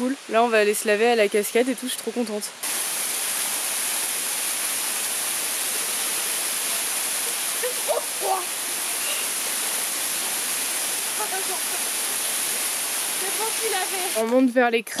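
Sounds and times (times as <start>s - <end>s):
waterfall splashing on rock: 0.0s - 14.4s.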